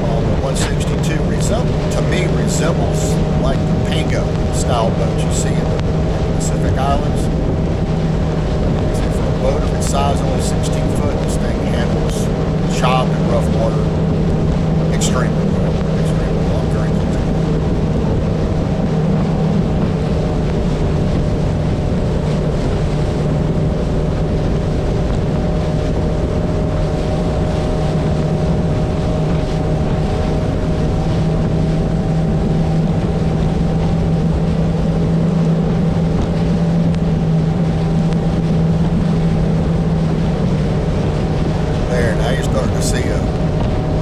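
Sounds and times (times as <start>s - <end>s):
outboard motor droning: 0.0s - 44.0s
water rushing past hull: 0.0s - 44.0s
wind rumbling on microphone: 0.0s - 44.0s.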